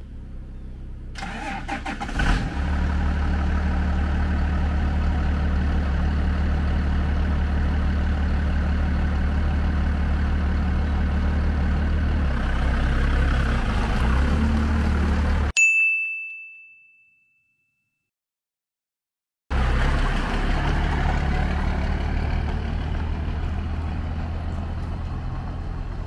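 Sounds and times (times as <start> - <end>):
truck engine cranking and idling: 0.0 - 15.5, 19.5 - 26.0.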